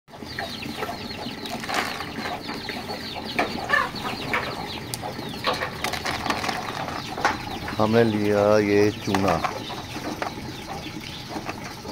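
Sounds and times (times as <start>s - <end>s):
chickens and chicks peeping: 0.1s - 11.9s.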